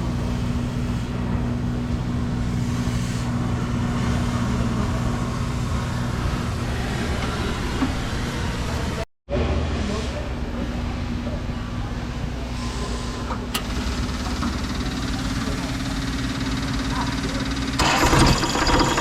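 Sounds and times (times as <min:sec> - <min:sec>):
diesel engine running: 0:00.0 - 0:09.1, 0:09.8 - 0:19.0.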